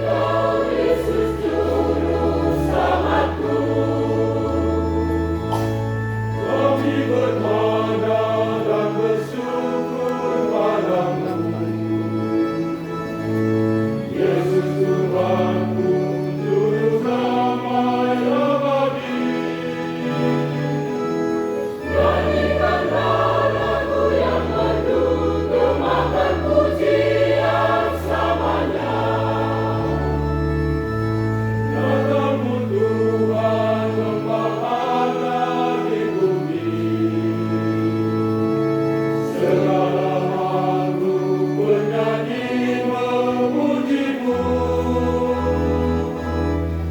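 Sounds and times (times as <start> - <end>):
choir singing a hymn: 0.0 - 46.9
instrumental accompaniment: 0.0 - 46.9.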